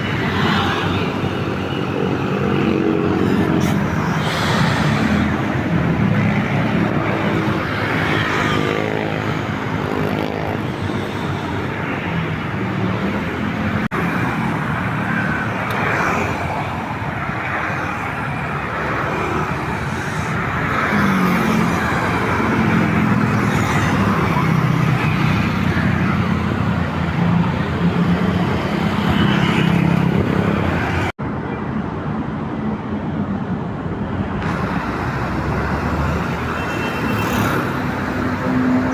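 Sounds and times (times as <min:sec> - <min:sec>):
buses and vehicles passing: 0:00.0 - 0:38.9.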